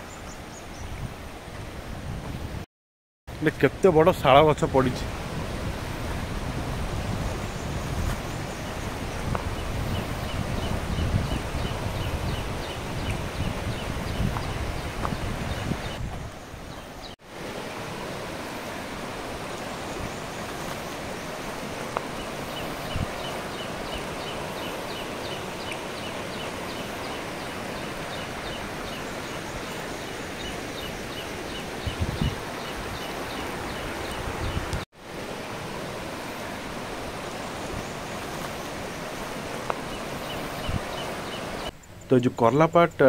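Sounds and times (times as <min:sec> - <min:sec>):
waterfall rushing: 0:03.4 - 0:41.7.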